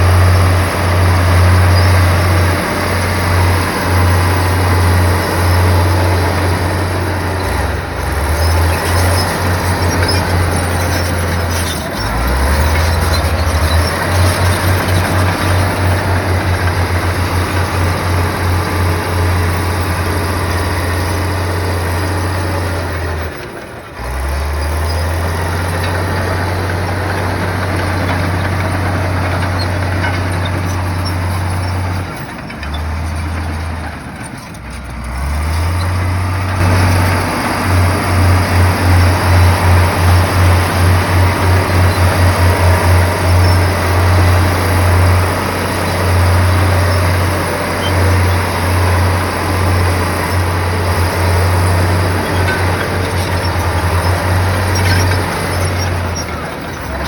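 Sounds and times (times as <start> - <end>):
bulldozer diesel engine rumbling: 0.0 - 57.0.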